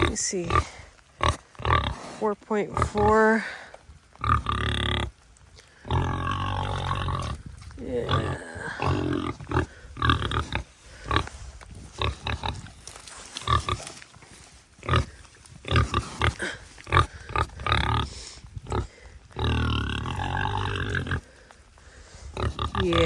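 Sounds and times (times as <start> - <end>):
pig grunting: 0.0 - 3.6, 4.2 - 12.8, 13.4 - 14.0, 14.8 - 21.4, 22.3 - 23.0.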